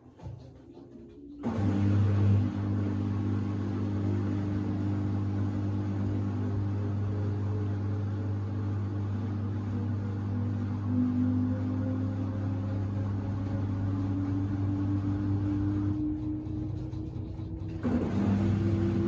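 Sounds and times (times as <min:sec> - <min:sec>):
washing machine drum spinning: 0:00.0 - 0:19.0.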